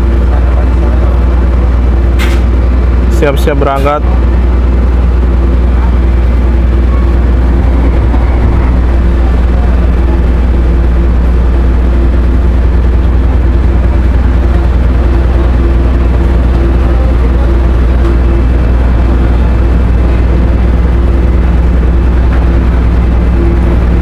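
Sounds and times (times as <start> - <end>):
ship engines droning: 0.0 - 24.0.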